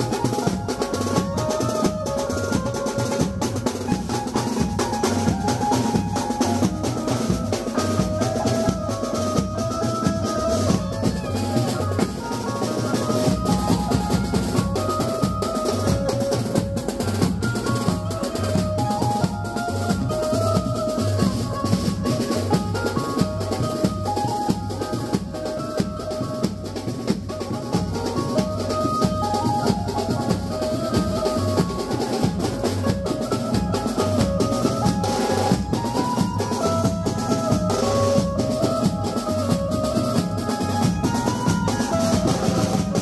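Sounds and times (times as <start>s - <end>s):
amplified banjo melody: 0.0s - 43.0s.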